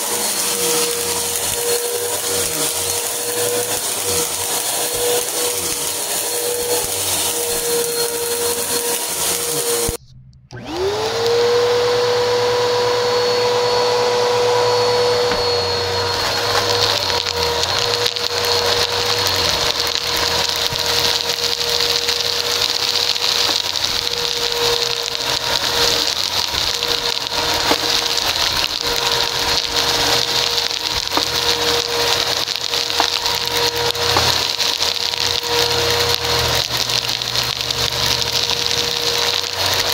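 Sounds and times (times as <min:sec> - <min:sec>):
vacuum crackling sucking debris: 0:00.0 - 0:12.2, 0:13.2 - 0:39.9
vacuum cleaner motor whine: 0:00.0 - 0:39.9.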